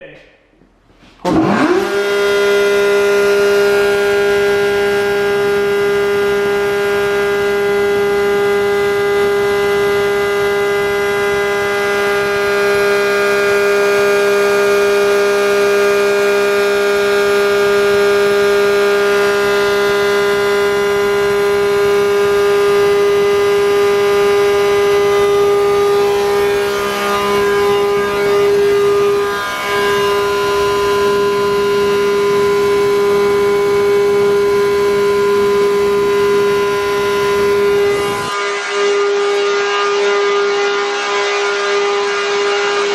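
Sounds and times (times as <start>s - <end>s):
siren blower drone: 1.2s - 42.9s.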